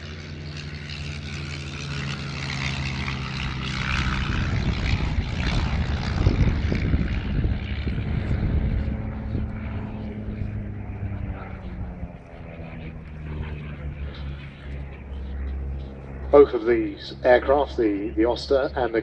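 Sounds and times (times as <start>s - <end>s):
propeller aircraft flying past: 0.0s - 19.0s.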